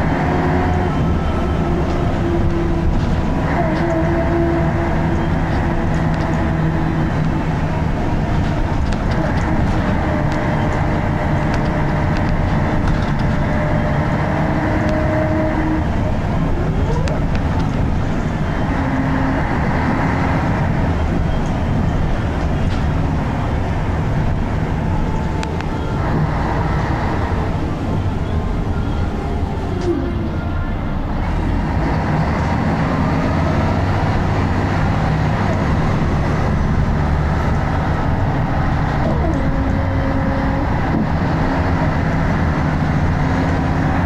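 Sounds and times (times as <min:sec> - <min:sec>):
bus diesel engine running hard: 0:00.0 - 0:44.0.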